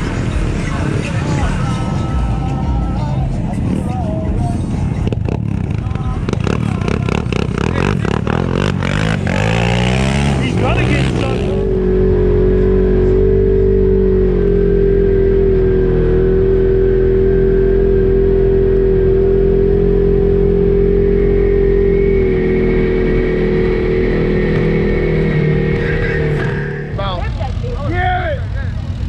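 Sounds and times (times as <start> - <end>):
steady whine: 0.0 - 28.7
utility vehicle engine drone: 0.0 - 29.0.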